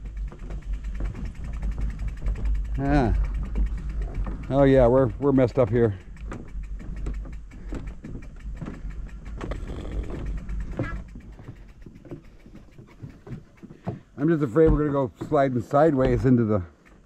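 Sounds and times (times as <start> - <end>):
low rolling rumble: 0.0 - 16.8.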